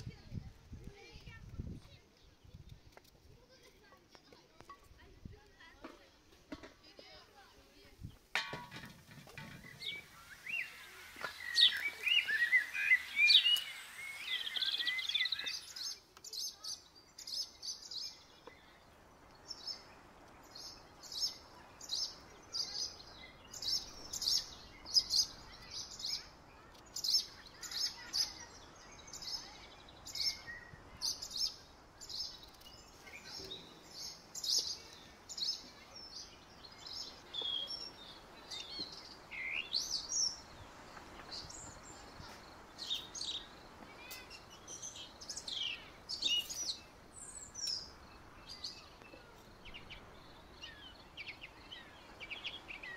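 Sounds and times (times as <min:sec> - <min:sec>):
birds chirping: 0:07.8 - 0:52.9.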